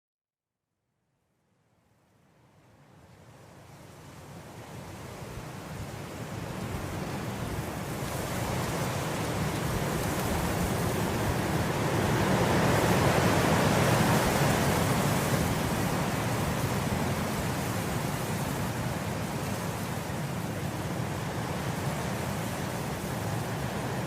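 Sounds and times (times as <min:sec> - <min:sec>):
wind blowing through grass: 0:02.6 - 0:24.0.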